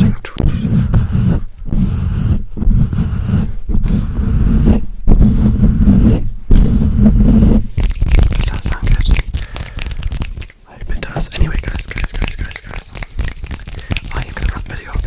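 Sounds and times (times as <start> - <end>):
rubbing on microphone: 0.0 - 15.0.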